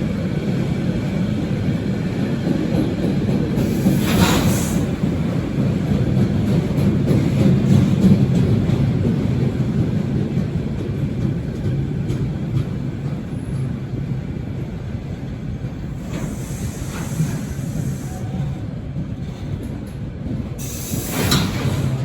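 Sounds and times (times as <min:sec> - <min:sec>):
faint clicks of train: 0:00.0 - 0:22.0
train rumbling past: 0:00.0 - 0:22.0.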